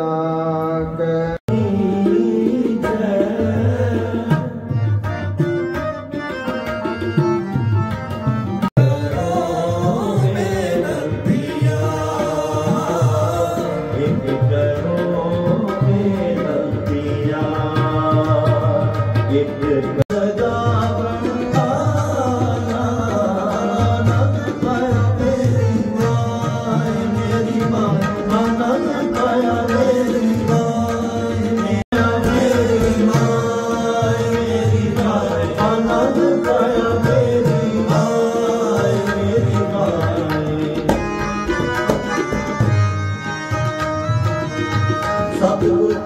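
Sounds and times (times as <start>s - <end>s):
harmonium: 0.0s - 46.0s
tabla beat: 0.6s - 46.0s.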